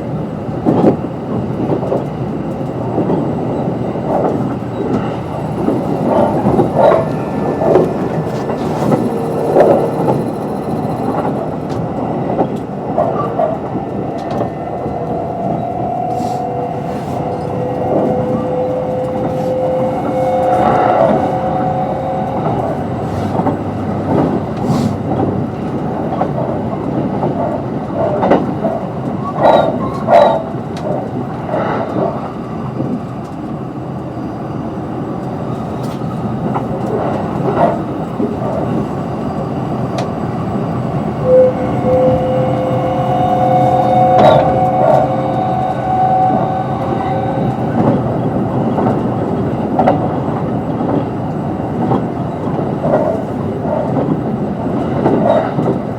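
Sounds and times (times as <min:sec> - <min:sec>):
wheels rumbling on rail: 0:00.0 - 0:55.9.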